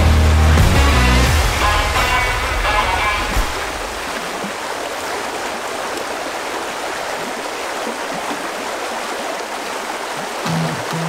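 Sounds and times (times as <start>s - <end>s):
stream rushing over stones: 0.3s - 11.0s.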